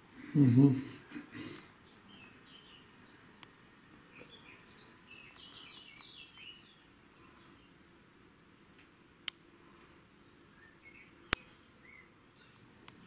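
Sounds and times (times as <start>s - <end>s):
faint bird chirping: 0.0s - 8.1s, 9.6s - 13.0s.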